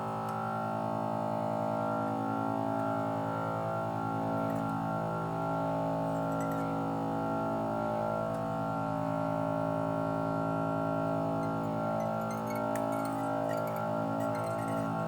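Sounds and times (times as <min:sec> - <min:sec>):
vacuum pump humming drone: 0:00.0 - 0:15.0.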